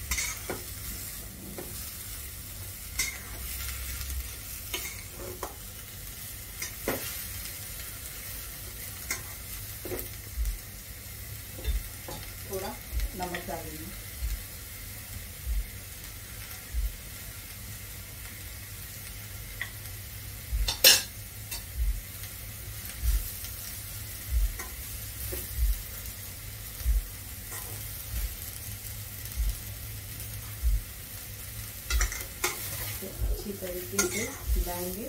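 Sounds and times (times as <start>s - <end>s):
vegetables sizzling in a pan: 0.0s - 35.0s.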